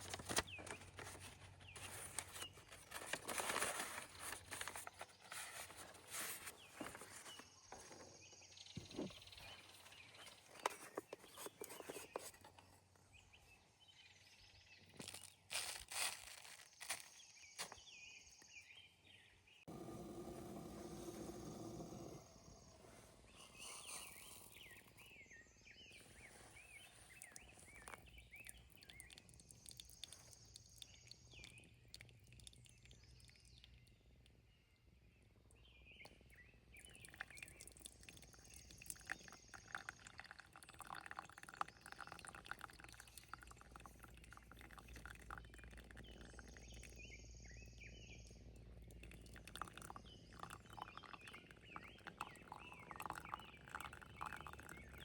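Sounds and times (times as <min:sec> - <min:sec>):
faint birdsong with trills: 0:00.0 - 0:55.0
low outdoor background: 0:00.0 - 0:55.0.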